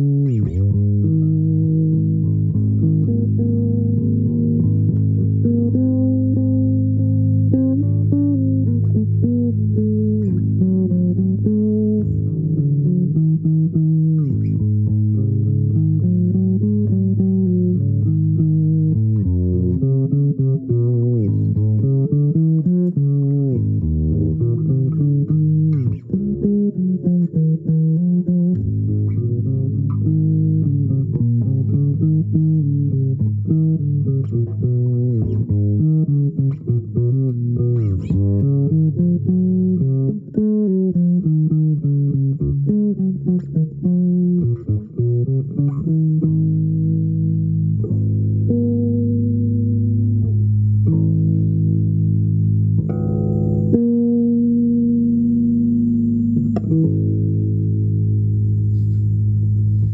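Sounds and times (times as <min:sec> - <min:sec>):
plucked string melody: 0:00.0 - 0:59.9
steady low tone: 0:00.0 - 0:59.9.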